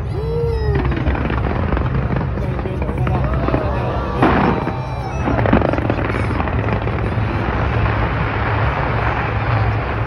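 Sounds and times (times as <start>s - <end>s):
fireworks crackling: 0.0s - 10.0s
fireworks rumbling bursts: 0.0s - 10.0s
sharp fireworks cracks: 0.2s - 10.0s.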